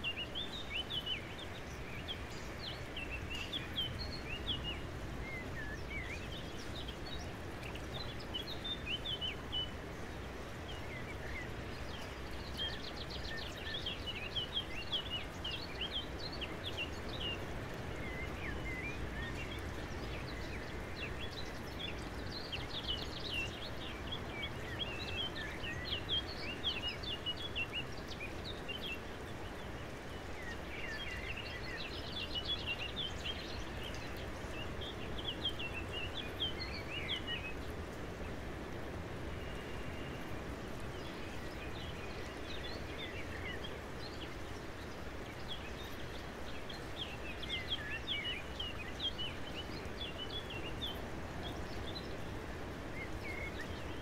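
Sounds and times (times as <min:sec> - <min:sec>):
small birds chirping and twittering: 0:00.0 - 0:54.0
steady outdoor hiss: 0:00.0 - 0:54.0.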